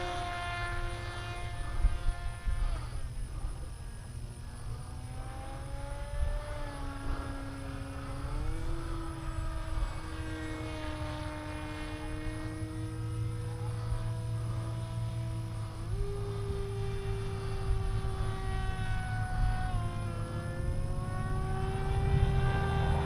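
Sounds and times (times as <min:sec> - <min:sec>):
electric motor and propeller whining: 0:00.0 - 0:23.0.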